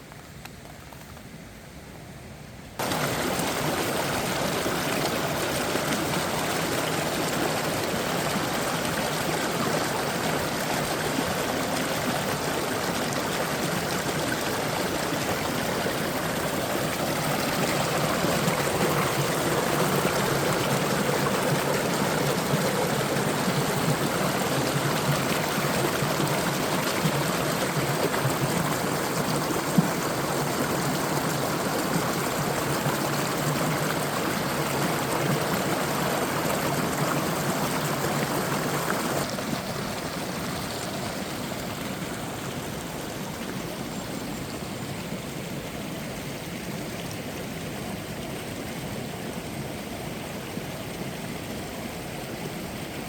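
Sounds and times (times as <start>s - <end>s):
mountain stream rushing: 2.8s - 53.0s.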